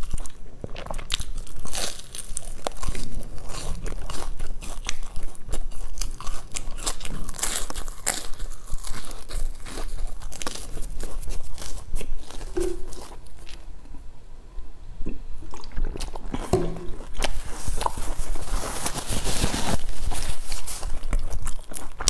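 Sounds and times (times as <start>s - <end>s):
chewing and crunching bread: 0.0s - 14.0s, 15.1s - 22.0s.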